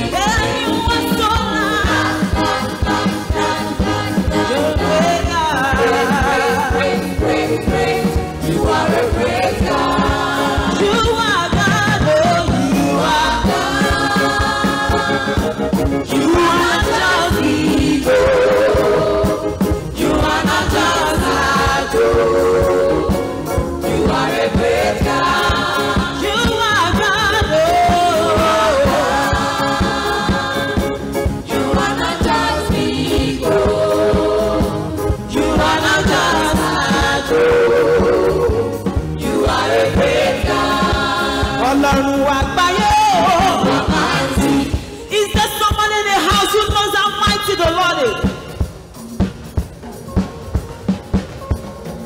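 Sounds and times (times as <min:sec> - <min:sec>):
gospel music with voices singing: 0:00.0 - 0:52.0.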